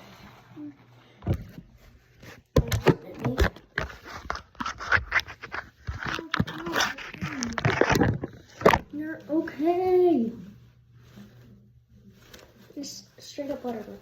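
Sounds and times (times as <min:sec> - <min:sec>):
shirt fabric rustling and scraping: 0:00.0 - 0:14.0.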